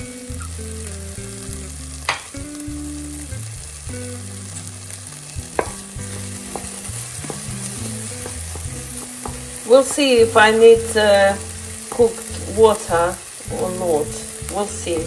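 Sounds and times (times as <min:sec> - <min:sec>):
potatoes sizzling in a pan: 0:00.0 - 0:15.0.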